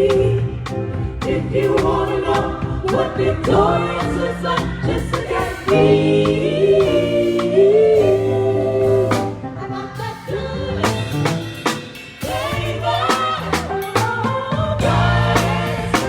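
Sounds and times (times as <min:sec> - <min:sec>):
vocal group singing in harmony: 0:00.0 - 0:16.0
live band playing: 0:00.1 - 0:16.0.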